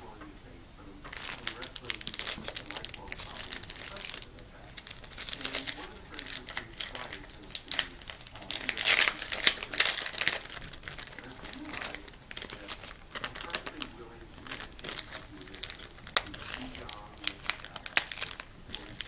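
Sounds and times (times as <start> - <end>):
packaging wrapper crinkling and tearing: 1.1 - 19.0.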